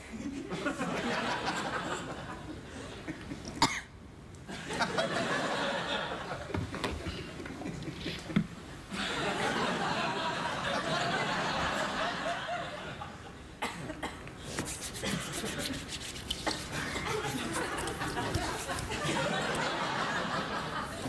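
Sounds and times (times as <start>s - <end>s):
studio audience laughing: 0.0s - 3.6s, 4.5s - 13.4s, 16.5s - 21.0s.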